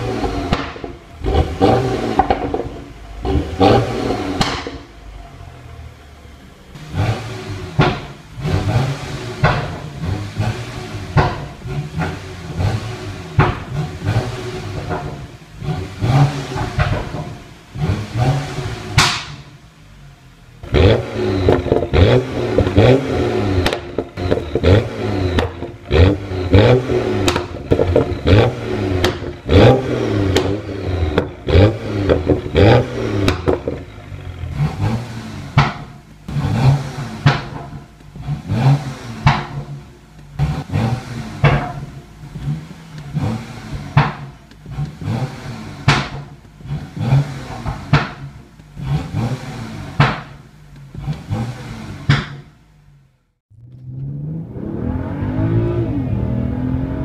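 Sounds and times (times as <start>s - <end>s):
exhaust pops and bangs: 0.0s - 4.9s, 7.7s - 8.7s, 9.3s - 18.3s, 18.9s - 19.6s, 20.6s - 39.8s, 40.4s - 52.6s
car engine revving: 0.0s - 57.0s.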